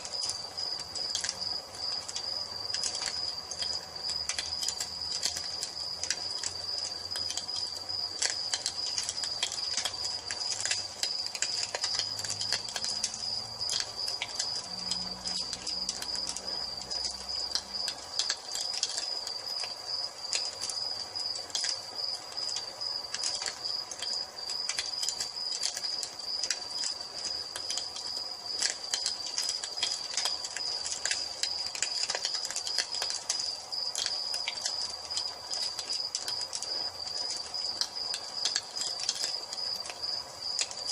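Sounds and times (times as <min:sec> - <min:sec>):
crickets trilling: 0:00.0 - 0:40.9
wood fire crackling and popping: 0:00.0 - 0:40.9.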